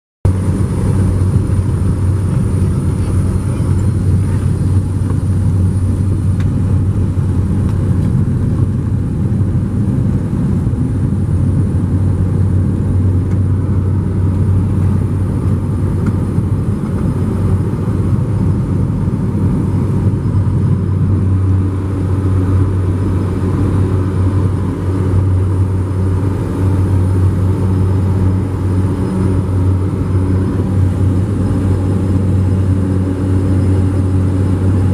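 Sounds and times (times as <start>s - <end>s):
airplane engine drone: 0.2s - 34.9s.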